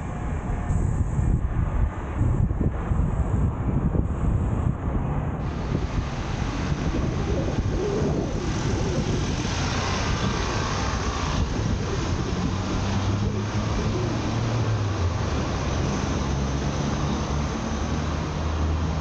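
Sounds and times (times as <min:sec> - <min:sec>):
low engine hum: 0:00.0 - 0:19.0
passing vehicle noise: 0:00.0 - 0:19.0.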